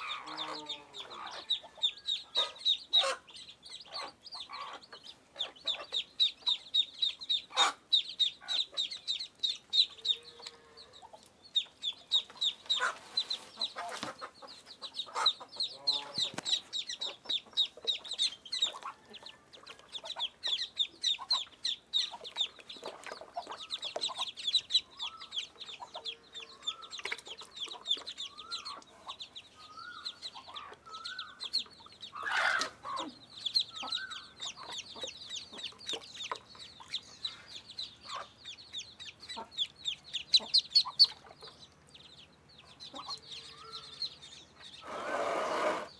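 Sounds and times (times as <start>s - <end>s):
chicks and ducklings peeping: 0.0s - 45.9s
hen clucking: 0.0s - 45.9s.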